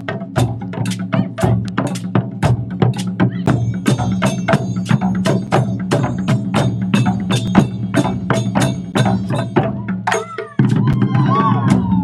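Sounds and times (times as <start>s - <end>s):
taiko drums struck in fast rhythm: 0.0s - 12.0s.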